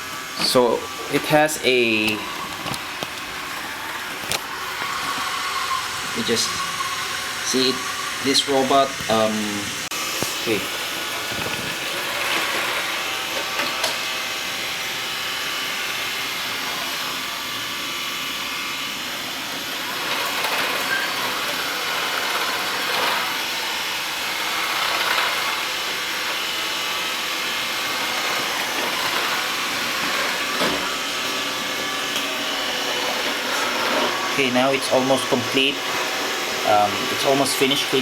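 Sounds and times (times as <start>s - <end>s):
robot vacuum whirring: 0.0s - 38.0s.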